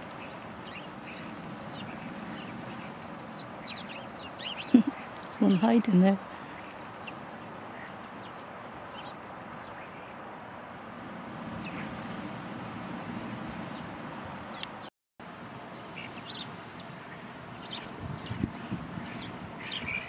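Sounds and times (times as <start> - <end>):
sparrows chirping: 0.0 - 12.1, 13.4 - 14.9, 15.8 - 20.0.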